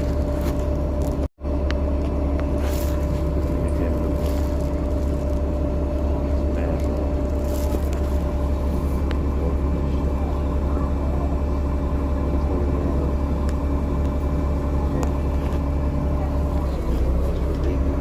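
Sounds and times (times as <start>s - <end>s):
bus engine rumble: 0.0s - 18.0s
steady hum: 0.0s - 18.0s.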